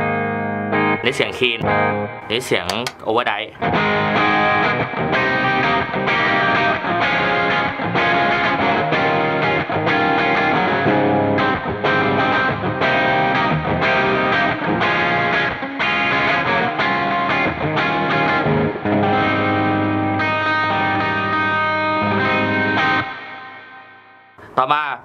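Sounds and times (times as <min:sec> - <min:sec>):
overdriven electric guitar chords: 0:00.0 - 0:01.0, 0:01.6 - 0:03.0, 0:03.6 - 0:24.5.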